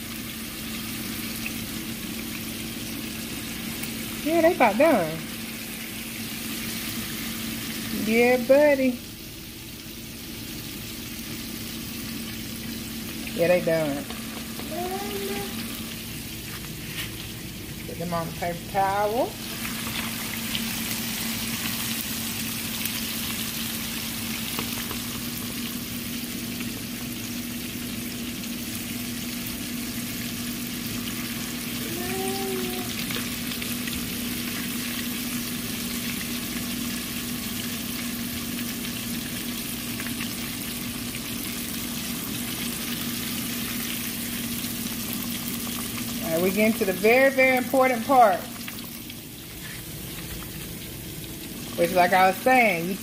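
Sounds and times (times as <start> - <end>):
low steady hum: 0.0 - 53.0
oil sizzling while deep-frying: 0.0 - 53.0.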